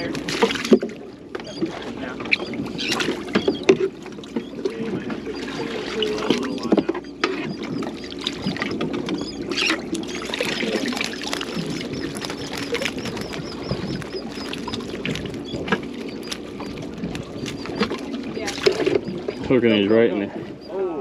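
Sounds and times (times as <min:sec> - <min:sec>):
boat engine drone: 0:00.0 - 0:21.0
water noise: 0:00.0 - 0:21.0.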